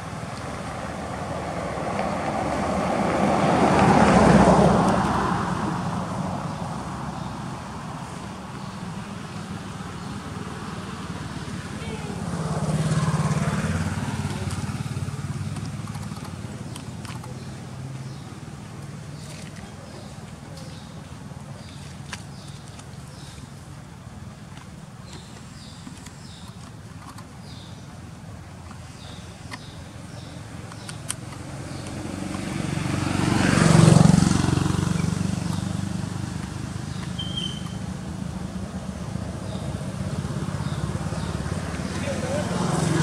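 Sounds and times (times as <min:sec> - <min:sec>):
vehicle engine droning: 0:00.0 - 0:24.2, 0:25.0 - 0:43.0.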